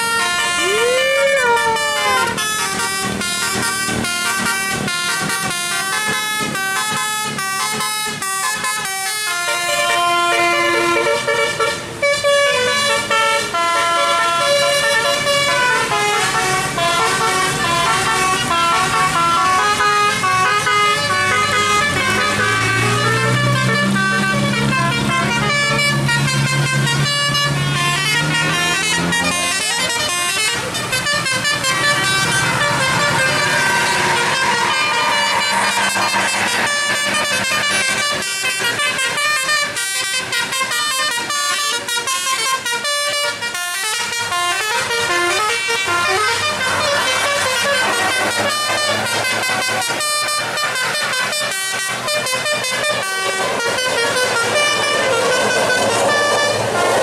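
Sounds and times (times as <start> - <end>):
bus engine drone: 0.0 - 57.0
bus musical air horns: 0.0 - 57.0.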